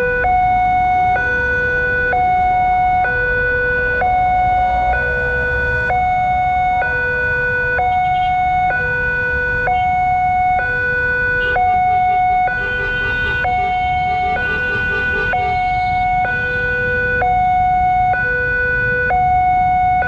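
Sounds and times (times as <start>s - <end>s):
fast pulsing alarm tone: 0.0s - 20.0s
low rumble of traffic: 0.0s - 20.0s
two-tone crossing alarm wail: 0.0s - 20.0s.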